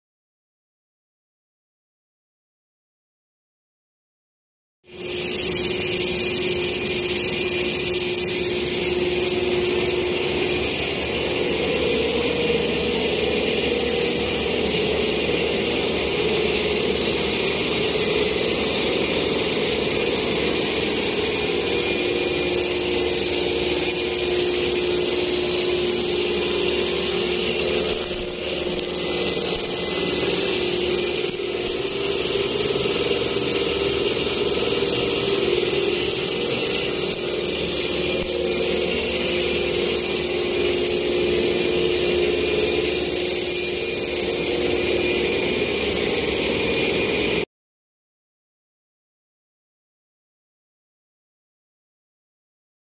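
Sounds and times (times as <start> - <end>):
machine drone with hiss: 4.9 - 47.5.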